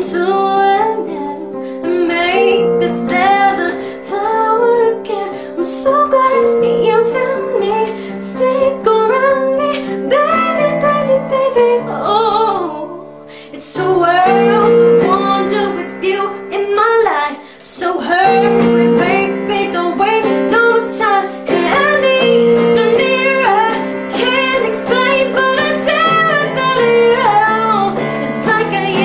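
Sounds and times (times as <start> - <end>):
instrumental backing chords: 0.0 - 29.0
person singing pop vocal: 0.0 - 29.0.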